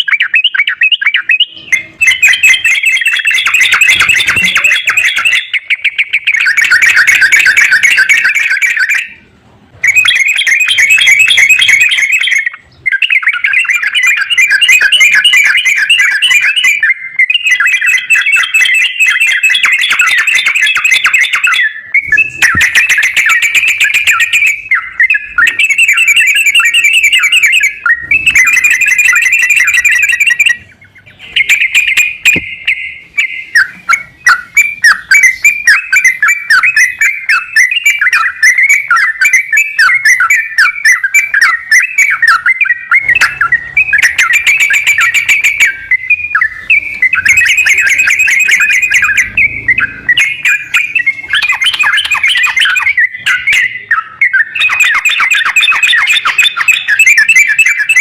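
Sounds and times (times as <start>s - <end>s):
bird chattering trills: 0.0s - 58.0s.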